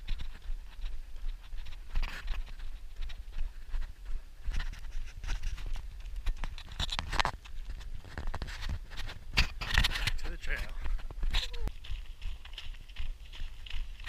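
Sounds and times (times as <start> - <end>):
running footsteps on pavement: 0.0 - 14.0.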